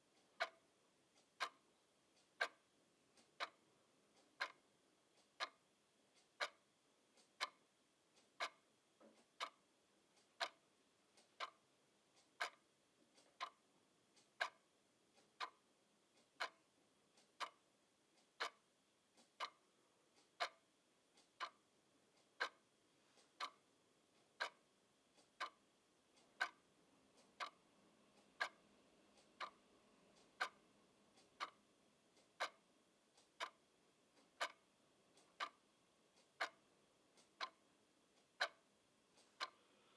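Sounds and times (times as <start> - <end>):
clock ticking: 0.1 - 39.6.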